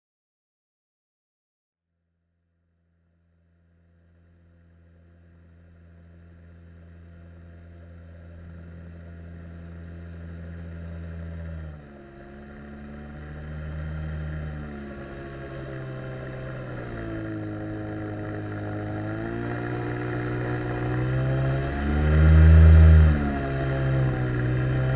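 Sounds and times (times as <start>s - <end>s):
outboard jet motor running: 3.9s - 24.9s.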